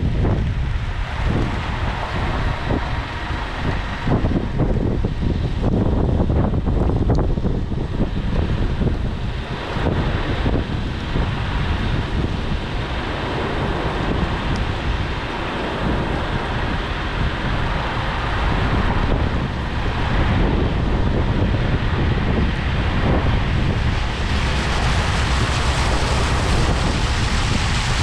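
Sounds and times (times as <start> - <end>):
vehicle rushing rumble: 0.0 - 28.0
wind buffeting microphone: 0.0 - 28.0.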